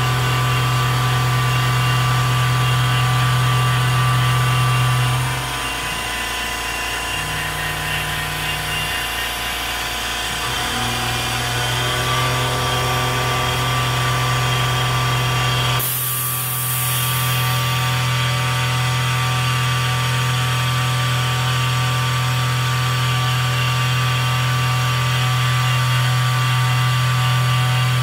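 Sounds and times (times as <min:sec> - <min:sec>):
milling machine hum and whine: 0:00.0 - 0:28.0.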